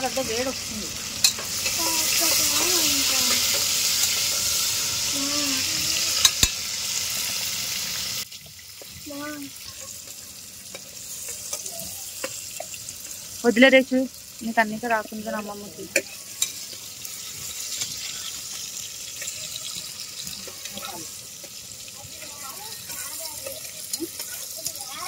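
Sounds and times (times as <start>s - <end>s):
curry sizzling in a hot pan: 0.0s - 25.0s.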